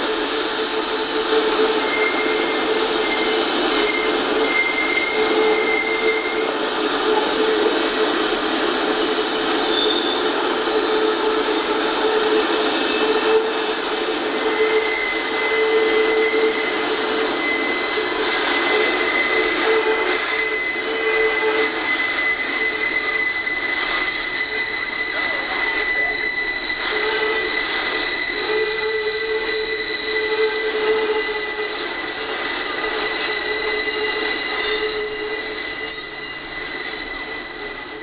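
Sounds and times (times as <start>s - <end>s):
train wheels rolling on rails: 0.0s - 38.0s
wheels squealing: 0.0s - 38.0s.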